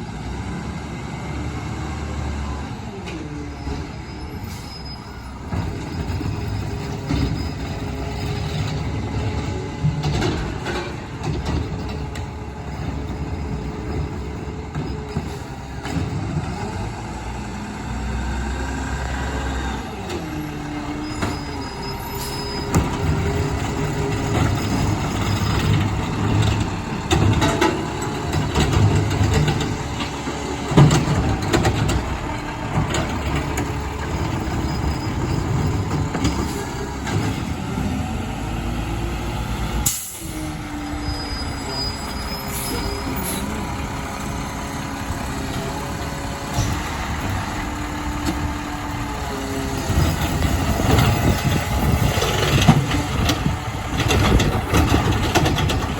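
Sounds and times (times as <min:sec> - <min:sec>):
garbage truck diesel engine: 0:00.0 - 0:55.9.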